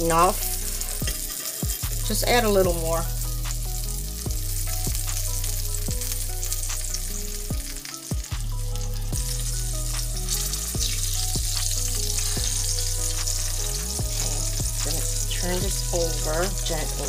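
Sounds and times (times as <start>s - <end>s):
mushrooms sizzling in oil: 0.0s - 17.0s.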